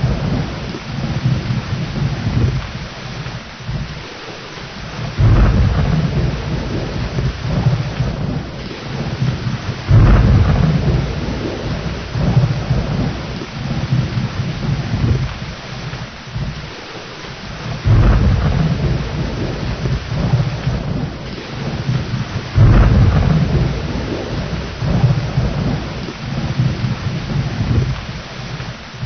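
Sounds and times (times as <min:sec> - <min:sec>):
heavy rain: 0:00.0 - 0:29.0
thunder rumbling: 0:00.0 - 0:29.0.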